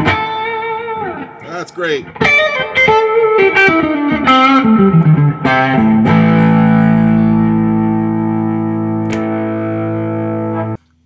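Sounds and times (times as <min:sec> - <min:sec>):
electric guitar notes and chord: 0:00.0 - 0:10.8.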